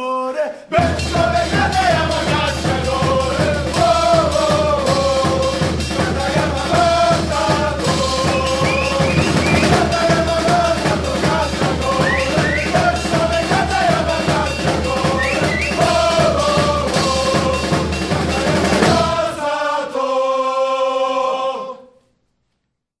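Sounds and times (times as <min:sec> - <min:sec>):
group chanting: 0:00.4 - 0:22.0
bass and snare drum beat: 0:00.8 - 0:19.4.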